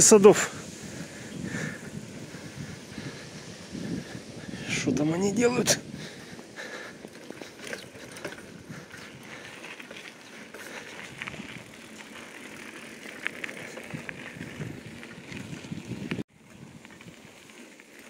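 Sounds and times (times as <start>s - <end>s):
bicycle tyre and road noise: 0.0s - 18.0s.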